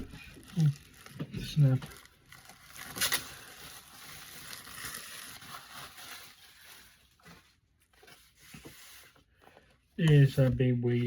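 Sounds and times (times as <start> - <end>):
paper packing material rustling: 0.0 - 11.0.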